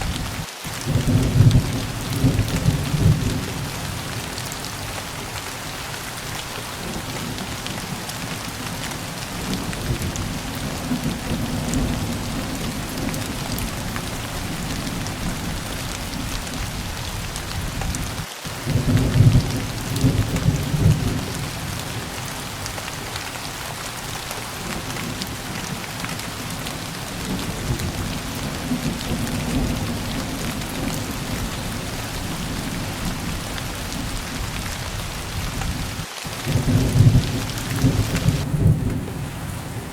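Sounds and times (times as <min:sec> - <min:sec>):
low rolling thunder: 0:00.0 - 0:05.4, 0:06.4 - 0:23.1, 0:24.0 - 0:39.9
steady rain hissing: 0:00.0 - 0:39.9.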